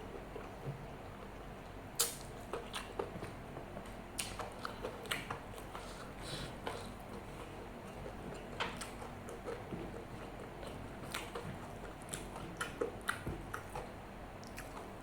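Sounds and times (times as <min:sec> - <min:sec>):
chewing and mouth sounds: 0:02.0 - 0:15.0.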